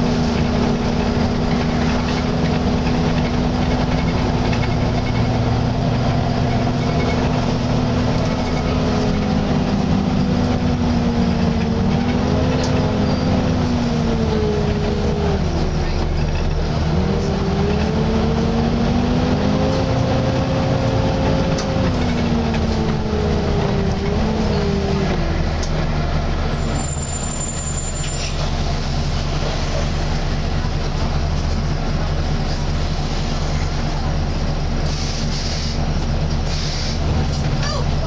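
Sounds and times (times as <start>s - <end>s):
bus engine drone: 0.0s - 38.0s
road noise: 0.0s - 38.0s.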